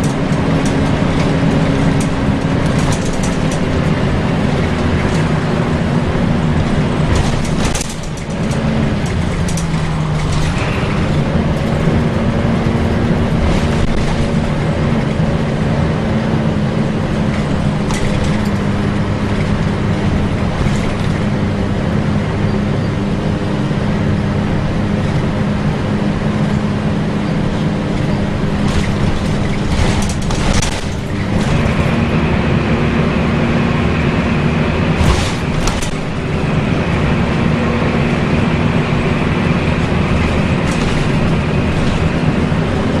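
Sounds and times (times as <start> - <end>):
bus body rattling: 0.0 - 43.0
bus engine droning: 0.0 - 43.0.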